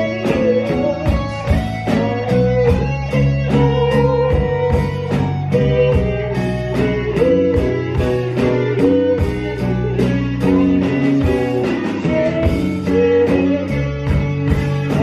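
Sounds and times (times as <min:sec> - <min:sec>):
electric guitar chords: 0:00.0 - 0:15.0
steady drum beat: 0:00.0 - 0:15.0.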